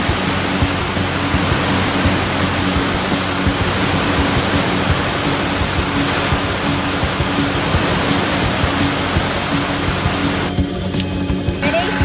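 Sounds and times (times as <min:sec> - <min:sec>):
fire hose spraying water: 0:00.0 - 0:10.5.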